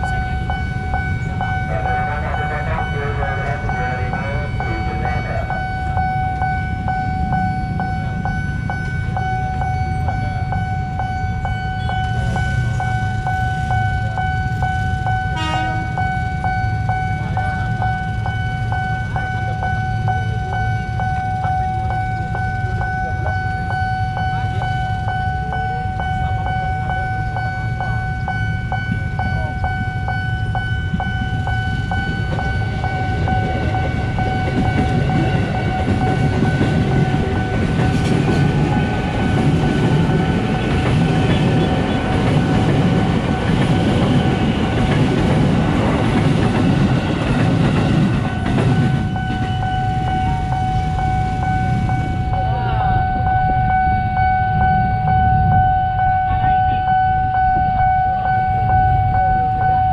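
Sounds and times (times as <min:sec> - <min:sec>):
level crossing warning bell: 0:00.0 - 0:59.9
train rumble and wheel clatter: 0:00.0 - 0:59.9.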